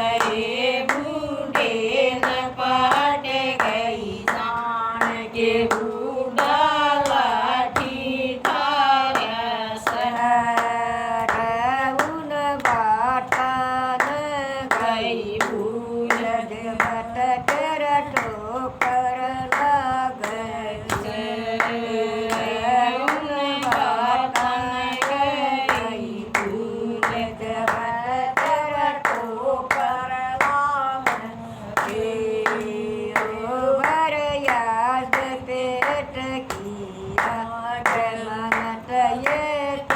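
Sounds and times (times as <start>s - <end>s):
woman singing devotional song: 0.0s - 39.9s
hand clapping: 0.1s - 39.9s.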